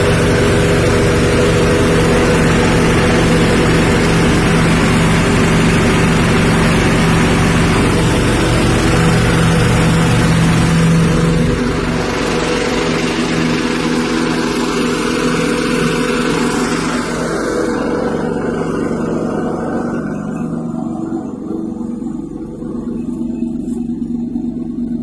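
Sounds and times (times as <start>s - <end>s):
grinding machine hiss: 0.0s - 25.0s
petrol engine running: 0.0s - 25.0s.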